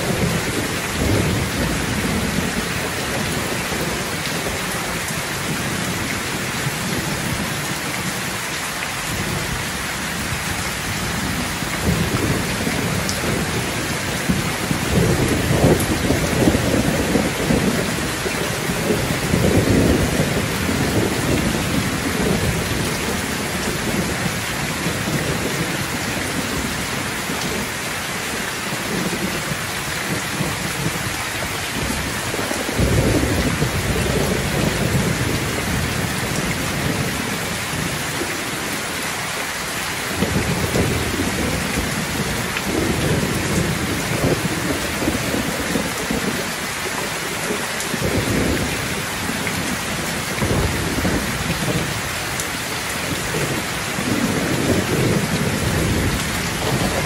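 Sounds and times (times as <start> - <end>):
thunder rumbling: 0.0 - 8.4, 9.1 - 38.8, 40.1 - 57.0
heavy rain: 0.0 - 57.0.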